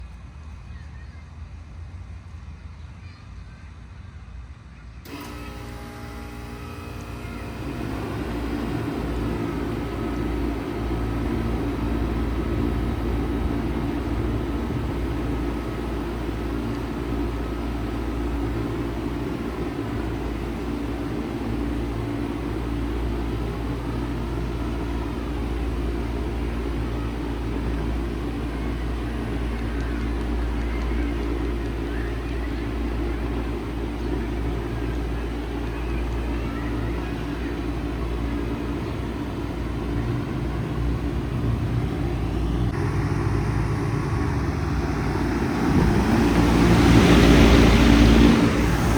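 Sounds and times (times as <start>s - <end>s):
heat pump humming: 5.0s - 48.9s.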